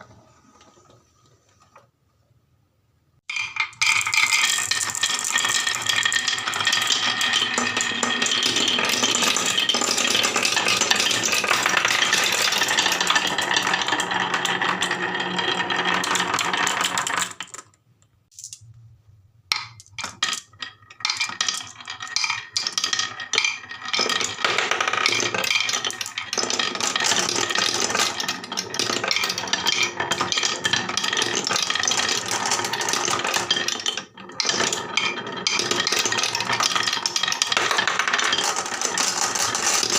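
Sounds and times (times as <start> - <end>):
marbles clattering down a marble run: 3.3 - 18.6, 19.5 - 39.9.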